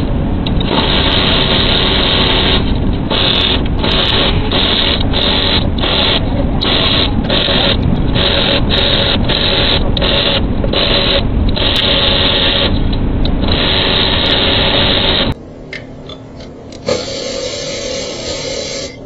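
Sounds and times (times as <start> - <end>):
cordless ratchet motor running: 0.6 - 12.8, 13.5 - 15.4, 16.8 - 19.0.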